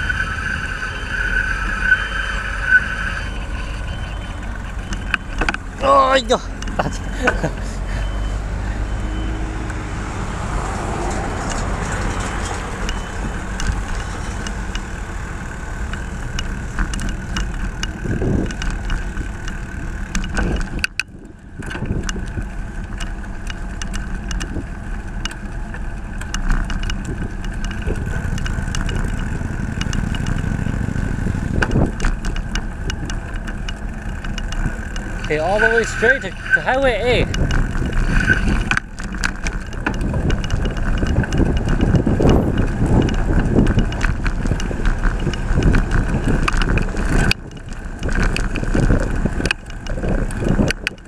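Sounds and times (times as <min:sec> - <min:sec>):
cars passing: 0:00.0 - 0:51.0
low traffic rumble: 0:00.0 - 0:51.0.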